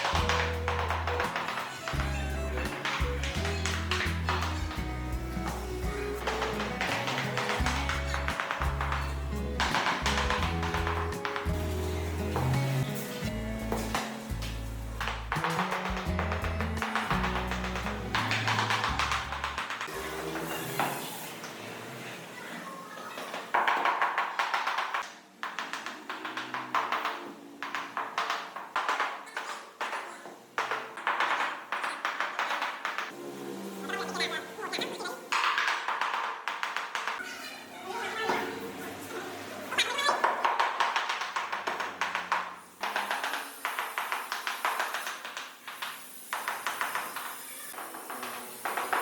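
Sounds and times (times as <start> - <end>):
rapid tapping on ceramic tiles: 0.0 - 12.8, 13.7 - 20.5, 23.2 - 33.2, 34.2 - 37.2, 39.8 - 49.0.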